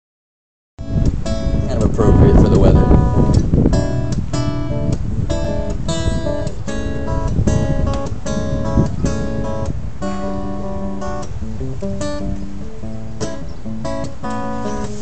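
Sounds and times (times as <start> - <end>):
acoustic guitar strumming chords: 0.8 - 15.0.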